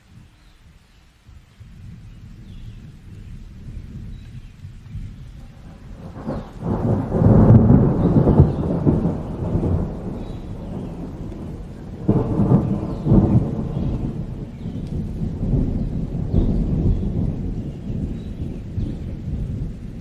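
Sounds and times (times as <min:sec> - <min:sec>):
steady rainfall: 0:00.0 - 0:20.0
thunder rumbling: 0:01.6 - 0:20.0.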